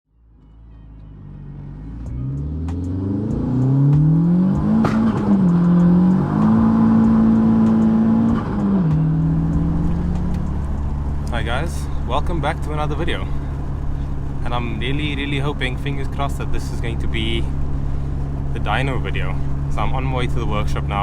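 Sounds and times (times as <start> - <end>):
turbocharged engine accelerating: 1.7 - 21.0.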